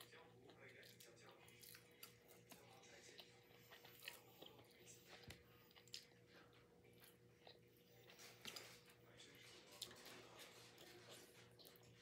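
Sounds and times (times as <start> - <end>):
chewing: 0.0 - 12.0.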